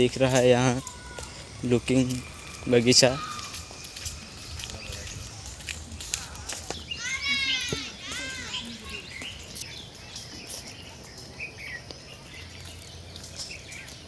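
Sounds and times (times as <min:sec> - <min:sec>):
bird calls rising and falling: 0:00.0 - 0:14.0.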